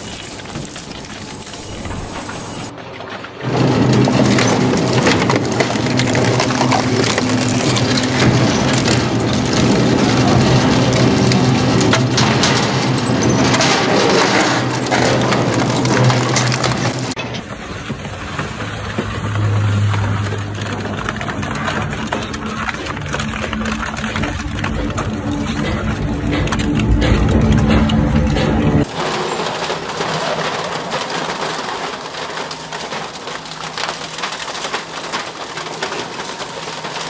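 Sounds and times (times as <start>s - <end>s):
shredder crushing metal cans: 0.0s - 37.0s.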